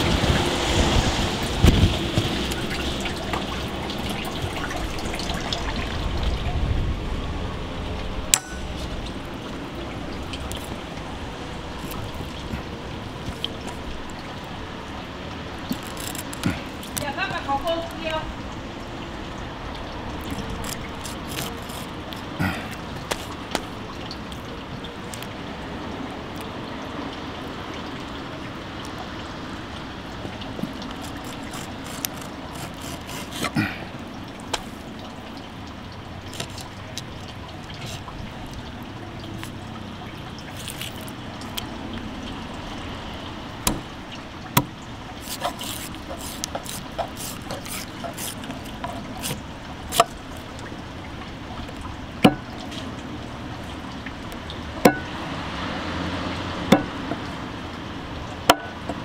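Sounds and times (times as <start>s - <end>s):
trickle of water: 0.0s - 59.0s.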